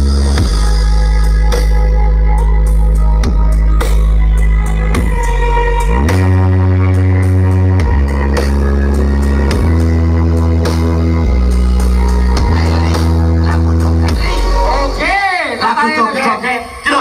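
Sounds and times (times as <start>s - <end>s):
loud electronic dance music: 0.0s - 17.0s.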